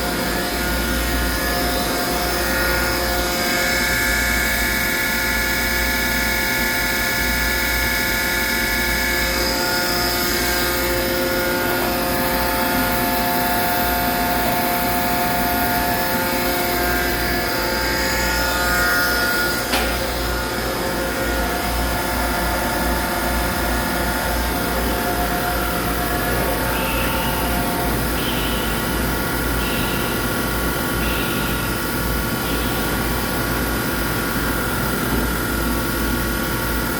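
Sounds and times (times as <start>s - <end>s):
turning machine whine and hum: 0.0s - 36.9s.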